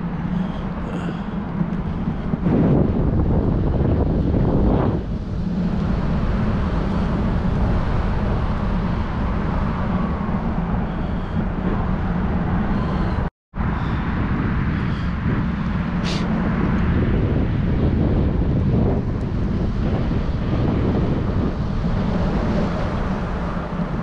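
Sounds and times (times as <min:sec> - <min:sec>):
longboard wheels rumbling on asphalt: 0:00.0 - 0:24.0.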